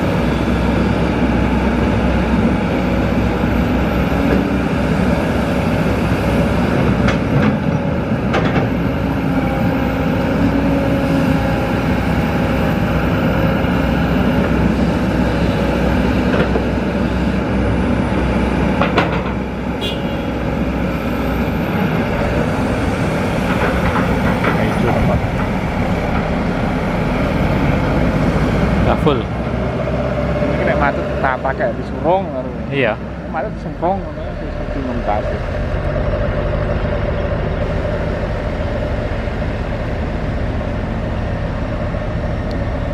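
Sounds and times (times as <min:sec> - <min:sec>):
excavator diesel engine running: 0:00.0 - 0:42.9
truck diesel engine running: 0:00.0 - 0:42.9.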